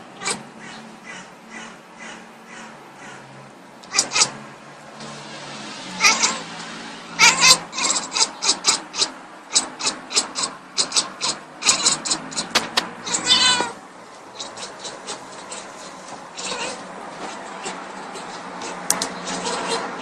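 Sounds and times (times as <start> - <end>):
cat chirping and chattering: 0.2 - 3.2, 3.8 - 4.4, 7.2 - 20.0.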